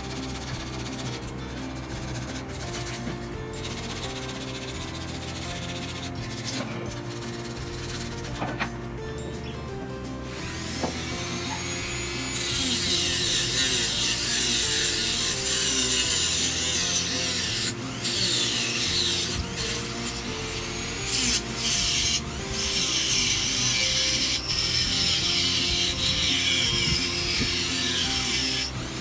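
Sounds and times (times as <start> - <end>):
background music: 0.0 - 29.0.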